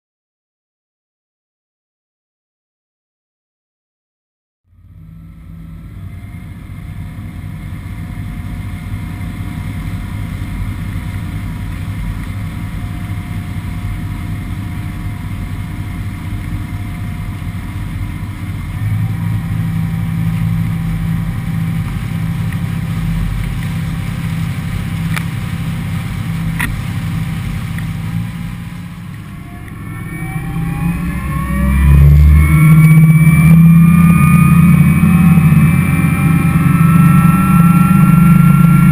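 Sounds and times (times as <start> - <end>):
powerboat engine running hard: 4.7 - 38.9
water rushing past hull: 5.0 - 38.9.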